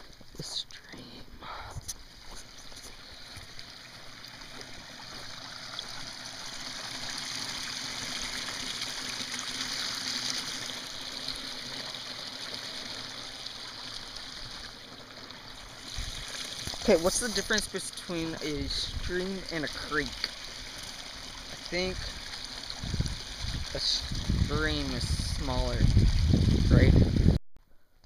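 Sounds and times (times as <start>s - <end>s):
stream running over rocks: 0.0s - 27.4s.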